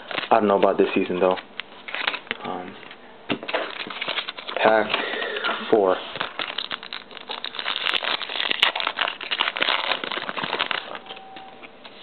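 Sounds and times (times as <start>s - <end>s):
foil wrapper tearing and crinkling: 0.0s - 2.6s, 3.5s - 11.2s.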